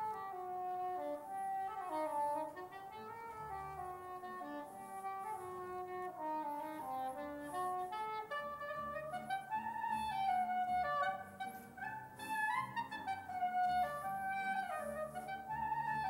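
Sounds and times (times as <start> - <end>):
klezmer music: 0.0 - 16.0.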